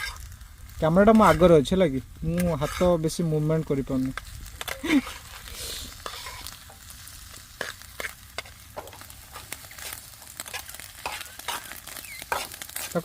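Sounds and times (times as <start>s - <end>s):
spatula scraping a pan: 0.0s - 0.4s, 1.0s - 1.6s, 2.2s - 3.3s, 4.1s - 13.0s
egg sizzling in a pan: 0.0s - 13.0s.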